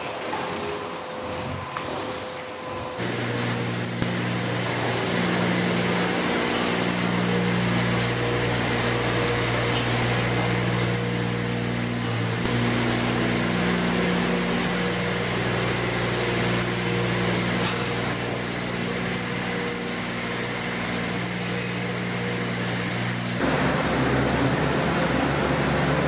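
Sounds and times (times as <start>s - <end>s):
cleaning cart motor humming: 3.0s - 26.0s.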